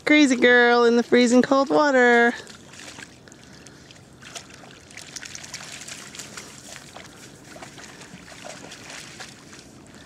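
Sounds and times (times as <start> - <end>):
water lapping and trickling: 0.0 - 10.0.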